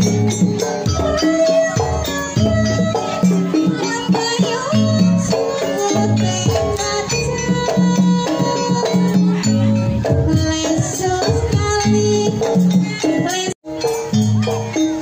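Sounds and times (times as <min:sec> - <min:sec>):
hand drums rhythm: 0:00.0 - 0:15.0
pitched melodic notes: 0:00.0 - 0:15.0.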